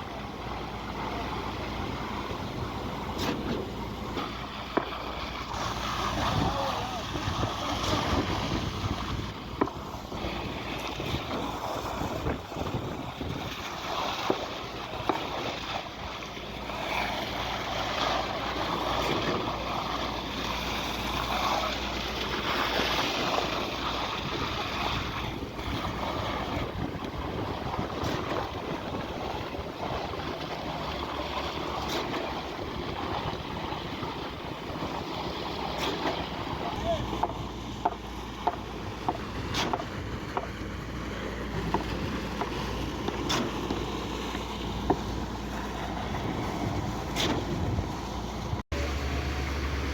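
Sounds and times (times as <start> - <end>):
wind on microphone: 0.0 - 37.8, 38.7 - 48.6
construction machinery noise: 0.0 - 49.9.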